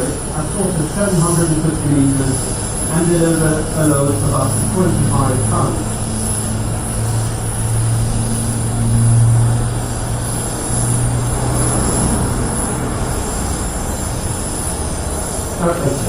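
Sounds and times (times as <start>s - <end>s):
turboprop aircraft engines: 0.0s - 16.0s.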